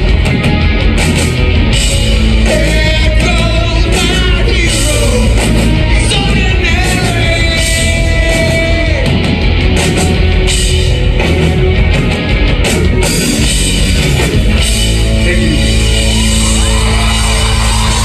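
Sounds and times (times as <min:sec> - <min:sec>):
rock band playing loudly: 0:00.0 - 0:18.0.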